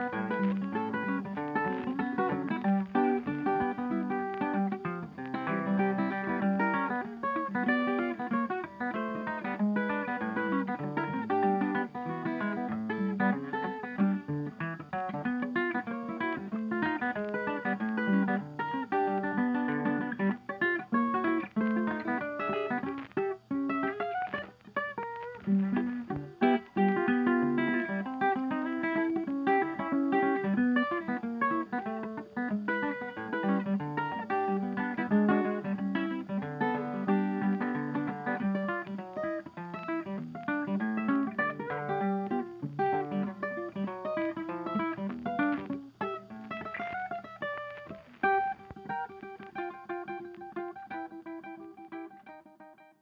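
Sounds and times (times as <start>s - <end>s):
plucked acoustic guitar melody: 0.0s - 53.0s.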